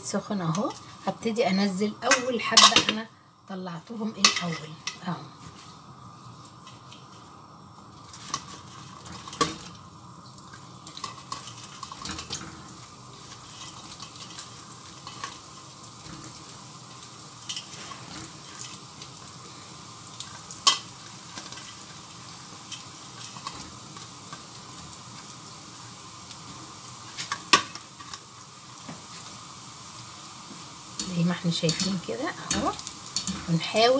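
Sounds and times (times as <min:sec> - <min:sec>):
dough frying in oil: 0:00.0 - 0:33.9.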